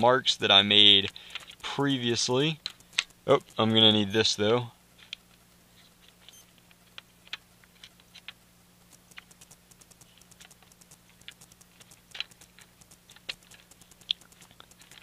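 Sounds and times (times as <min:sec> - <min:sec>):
small plastic gears clicking: 0:00.8 - 0:04.3, 0:06.0 - 0:15.0.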